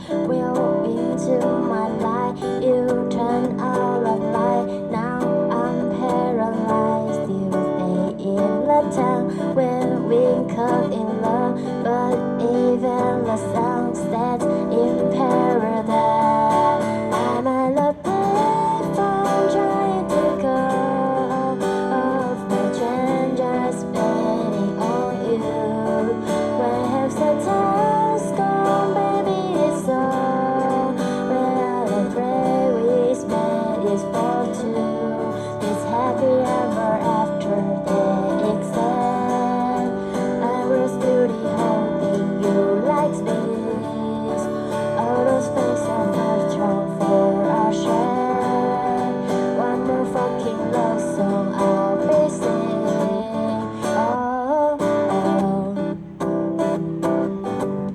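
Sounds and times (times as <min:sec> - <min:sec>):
acoustic guitar playing: 0:00.0 - 0:57.9.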